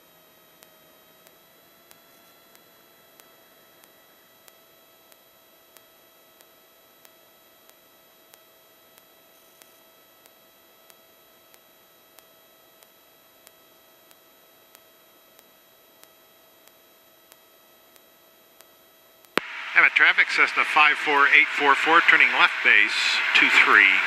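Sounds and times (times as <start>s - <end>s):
steady electrical whine: 0.0s - 24.0s.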